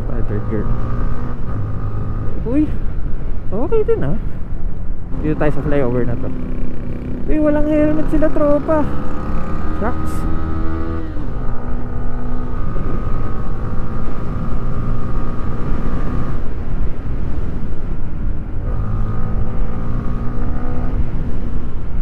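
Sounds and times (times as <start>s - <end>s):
motorcycle engine accelerating: 0.0s - 2.9s, 5.0s - 17.4s, 18.6s - 22.0s
low wind rumble: 0.0s - 22.0s.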